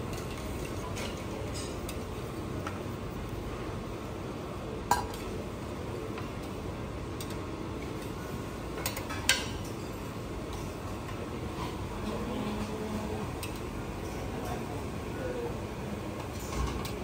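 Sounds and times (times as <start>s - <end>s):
steady kitchen hum: 0.0s - 17.0s.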